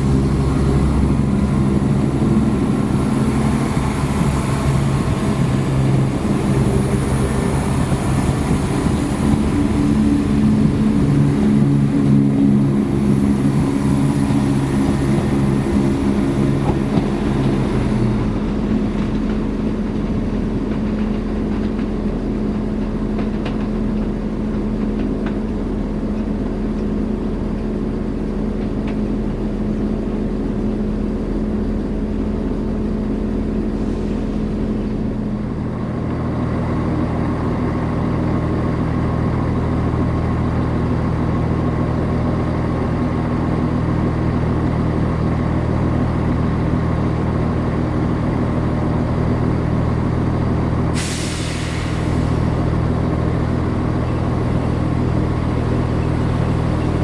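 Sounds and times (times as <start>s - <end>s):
diesel train engine whining: 0.0s - 57.0s
diesel train idling hum: 0.0s - 57.0s.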